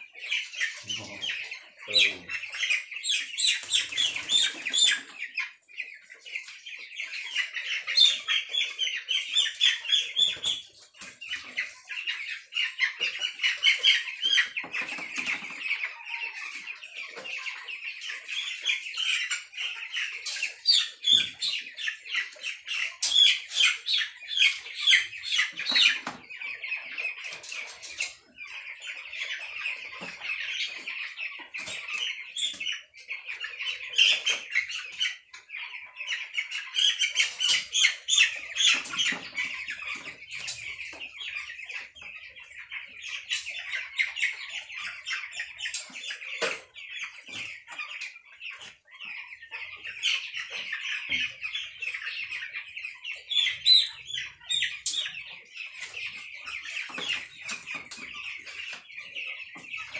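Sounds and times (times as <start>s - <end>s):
chickens peeping: 0.0s - 59.9s.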